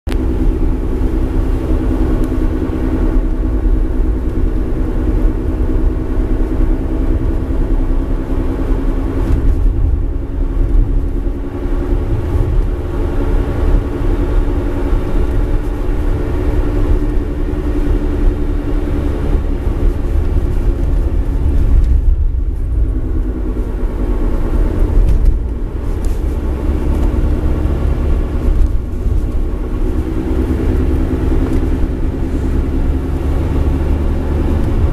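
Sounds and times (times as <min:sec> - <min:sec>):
car driving rumble: 0:00.1 - 0:34.9
droning hum of wheel bearing: 0:00.1 - 0:34.9.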